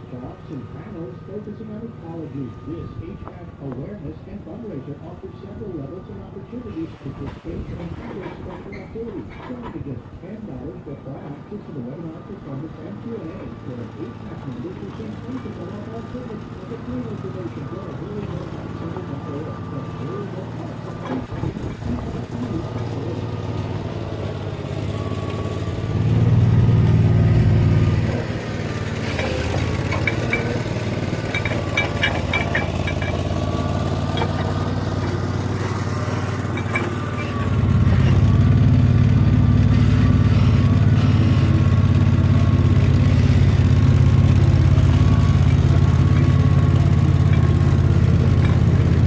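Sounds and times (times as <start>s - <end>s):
sawmill engine humming: 0.0s - 49.0s.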